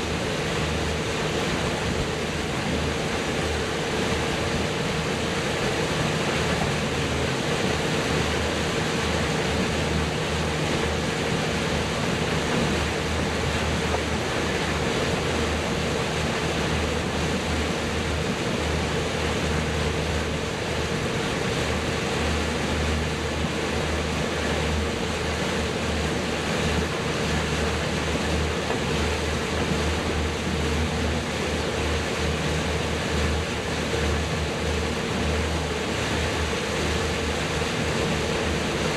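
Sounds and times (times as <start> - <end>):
motorboat engine running: 0.0 - 38.9
water rushing past hull: 0.0 - 38.9.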